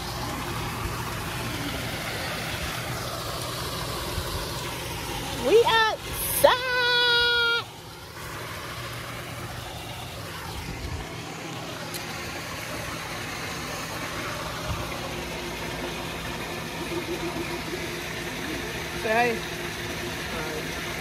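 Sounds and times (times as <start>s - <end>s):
machinery idling hum: 0.0s - 21.0s.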